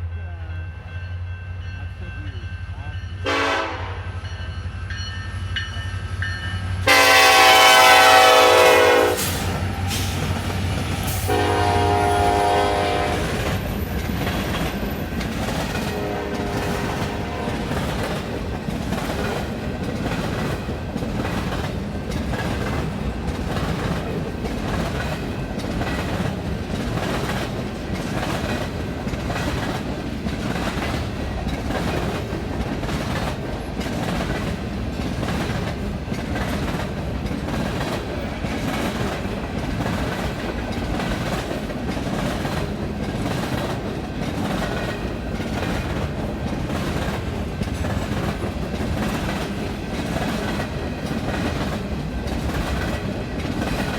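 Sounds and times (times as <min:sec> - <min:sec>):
train rumbling: 0:00.0 - 0:53.9
train wheels clicking over rail joints: 0:05.7 - 0:53.9.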